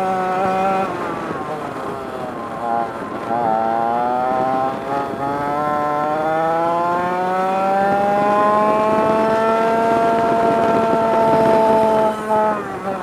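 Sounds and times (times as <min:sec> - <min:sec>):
kart engine accelerating: 0:00.0 - 0:13.0.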